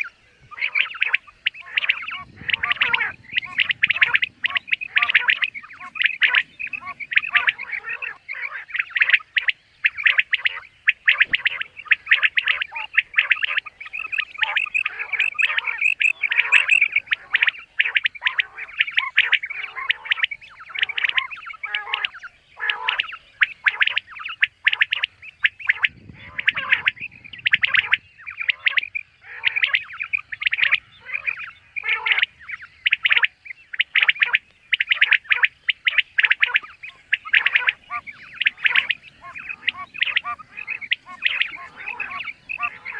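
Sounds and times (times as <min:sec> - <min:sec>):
quail chirping calls: 0:00.0 - 0:42.9.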